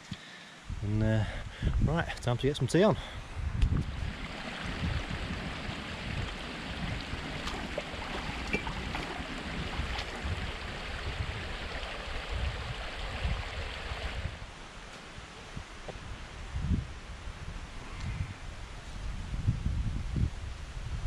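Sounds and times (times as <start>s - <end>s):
wind buffeting microphone: 0.7s - 14.5s, 15.5s - 21.0s.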